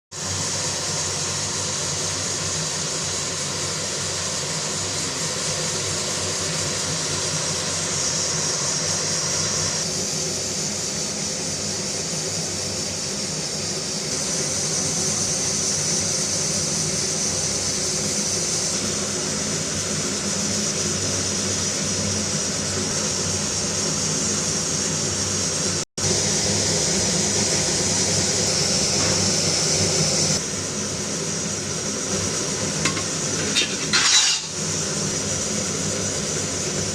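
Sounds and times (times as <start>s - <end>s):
chicken frying in oil: 0.1s - 36.9s.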